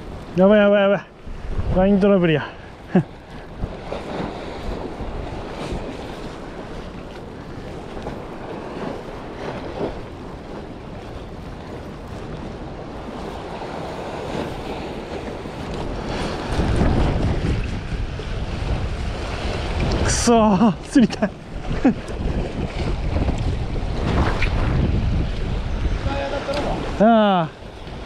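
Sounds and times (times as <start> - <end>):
harbour waves washing: 0.0 - 28.0
wind buffeting microphone: 0.0 - 28.0.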